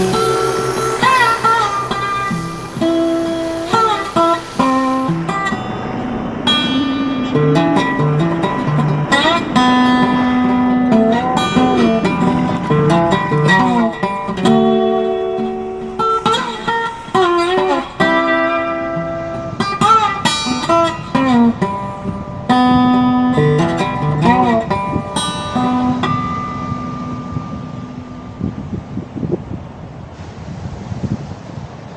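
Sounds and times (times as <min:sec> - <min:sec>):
plucked guitar melody: 0:00.0 - 0:29.0.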